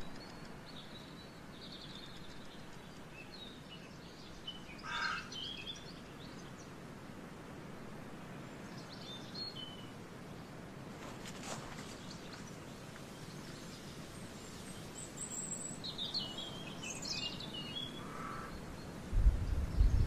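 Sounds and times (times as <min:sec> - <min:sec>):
small birds chirping: 0:00.0 - 0:06.8, 0:08.3 - 0:20.0
outdoor background hiss: 0:00.0 - 0:20.0.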